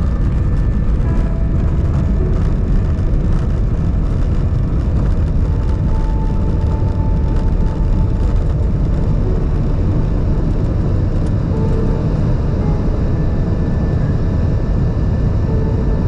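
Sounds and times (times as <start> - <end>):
faint whine: 0.0 - 16.0
jet engine and wheels rumble: 0.0 - 16.0.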